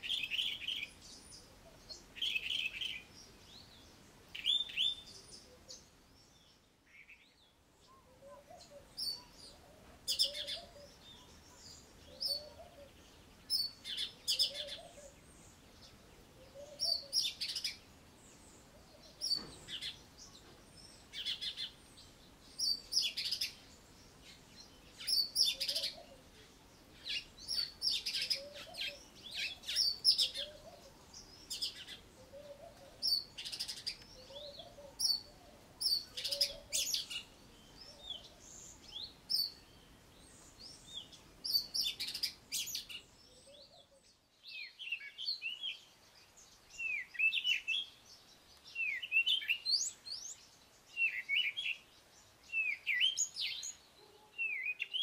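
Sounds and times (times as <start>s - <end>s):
bird chirping: 0.0s - 55.0s
melodious birdsong: 0.0s - 55.0s.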